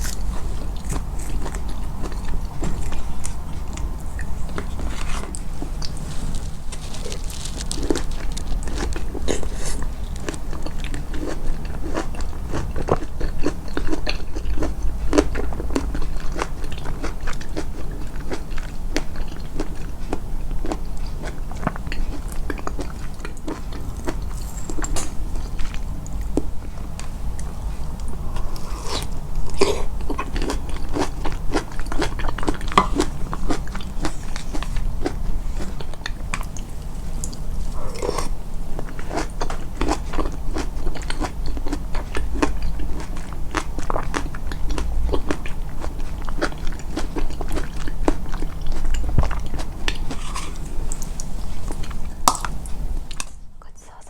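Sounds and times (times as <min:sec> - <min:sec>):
chewing food: 0:00.0 - 0:53.4.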